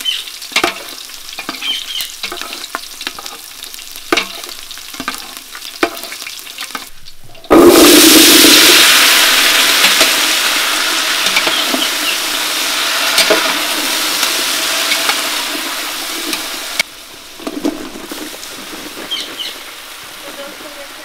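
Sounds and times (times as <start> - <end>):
potatoes sizzling in hot oil: 0.0 - 21.0.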